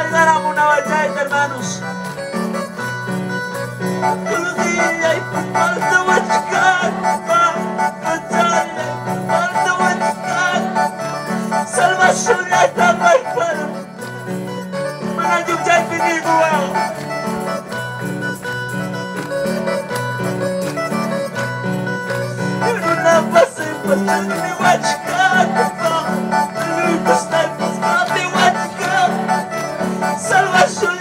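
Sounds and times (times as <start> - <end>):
electronic keyboard band playing: 0.0 - 31.0
person singing: 4.0 - 21.3, 22.0 - 31.0.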